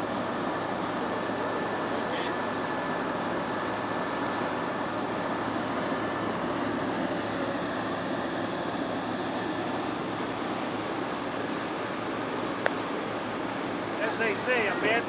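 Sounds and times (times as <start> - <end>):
motorboat engine hum: 0.0 - 15.0
water rushing against hull: 0.0 - 15.0.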